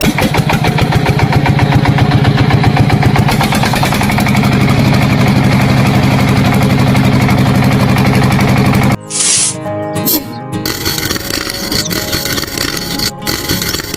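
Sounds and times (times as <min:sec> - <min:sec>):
engine running with fast pulses: 0:00.0 - 0:09.2, 0:10.1 - 0:13.9.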